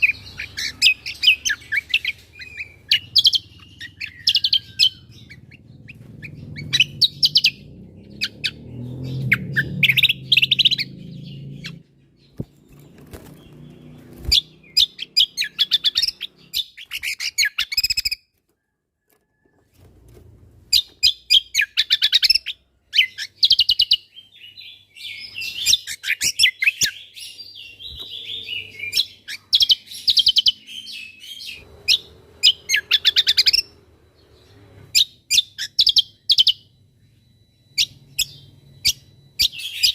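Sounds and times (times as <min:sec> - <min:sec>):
bird chirping and trilling: 0:00.0 - 0:18.4, 0:20.7 - 0:39.9.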